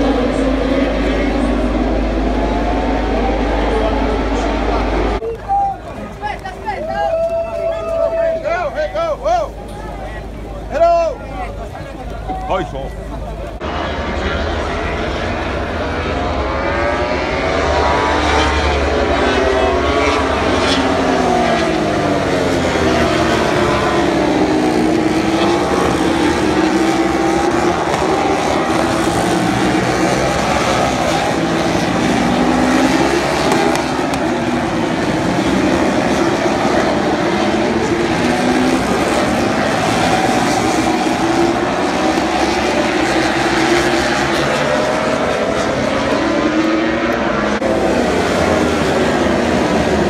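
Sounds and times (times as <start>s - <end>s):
racing motorcycles passing: 0.0s - 5.2s, 13.5s - 50.0s.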